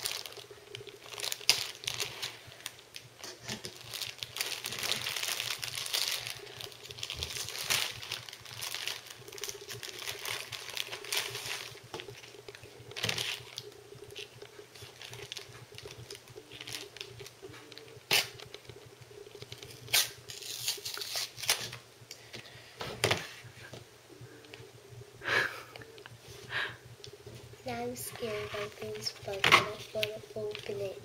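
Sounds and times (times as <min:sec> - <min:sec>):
plastic blister pack rustling: 0:00.0 - 0:21.8, 0:27.7 - 0:31.0.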